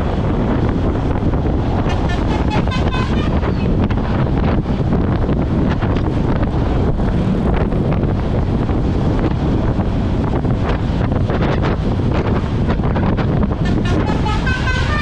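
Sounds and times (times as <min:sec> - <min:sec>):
bus rumble: 0:00.0 - 0:15.0
wind buffeting microphone: 0:00.0 - 0:15.0.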